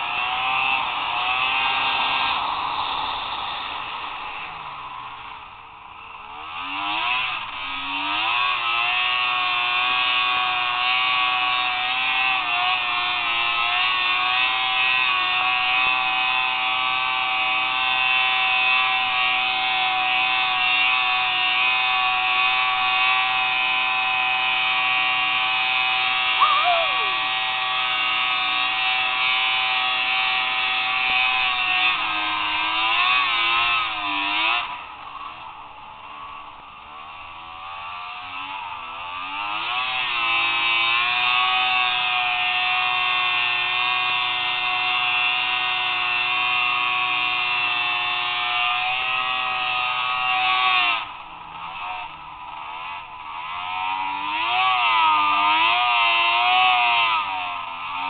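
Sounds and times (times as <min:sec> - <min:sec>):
snowmobile engine revving: 0:00.0 - 0:05.6, 0:06.2 - 0:58.0.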